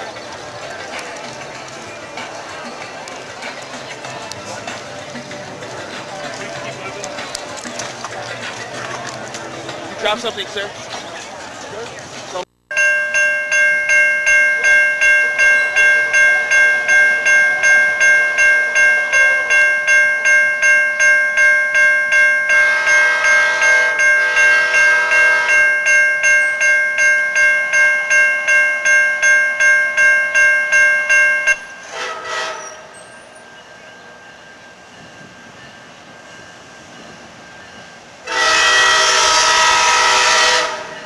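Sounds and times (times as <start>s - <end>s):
railroad crossing bell ringing: 0.0s - 10.8s, 12.7s - 41.0s.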